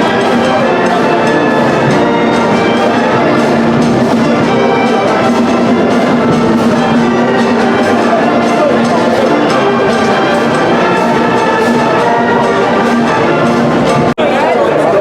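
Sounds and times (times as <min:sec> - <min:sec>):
brass music: 0:00.0 - 0:14.2
percussive beat: 0:00.0 - 0:14.2.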